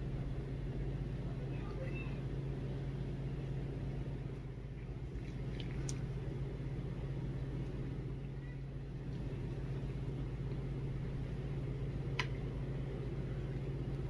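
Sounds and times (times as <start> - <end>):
low hum: 0.0 - 14.0
rumble: 0.0 - 14.0.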